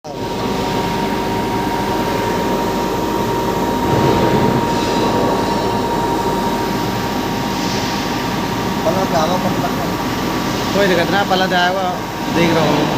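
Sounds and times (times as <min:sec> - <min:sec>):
grinding machine running: 0:00.1 - 0:12.9
steady high hum: 0:00.1 - 0:12.9.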